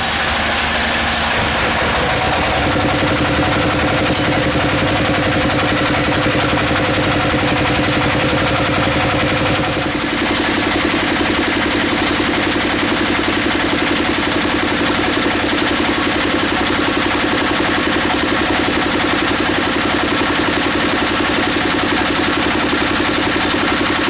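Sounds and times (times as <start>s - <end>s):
diesel engine chugging: 0.0s - 24.0s.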